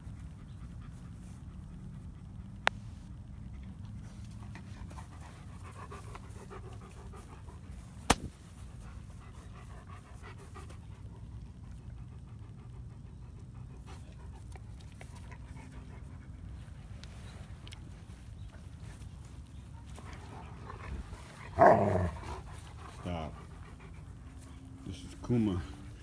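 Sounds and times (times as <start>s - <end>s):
dogs panting: 0.0s - 26.0s.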